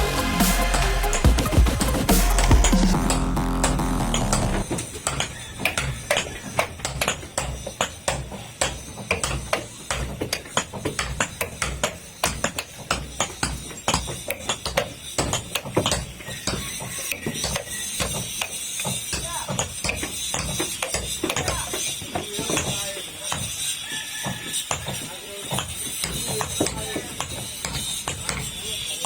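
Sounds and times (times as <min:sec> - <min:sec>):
rapid sharp taps and knocks: 0:01.2 - 0:29.0.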